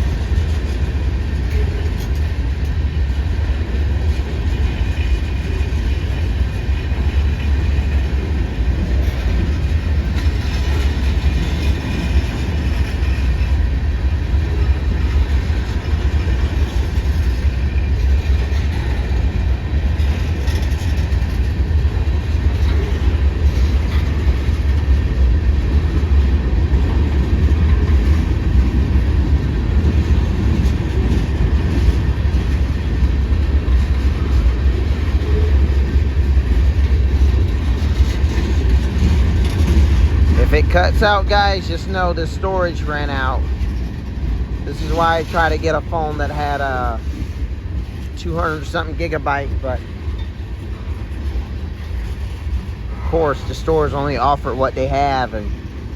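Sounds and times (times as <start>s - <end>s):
freight train rumbling past: 0.0s - 55.9s.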